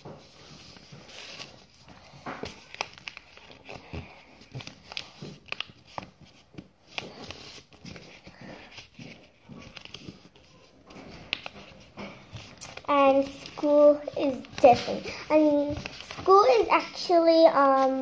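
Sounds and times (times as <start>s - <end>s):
paper folding and rustling: 0.0s - 18.0s.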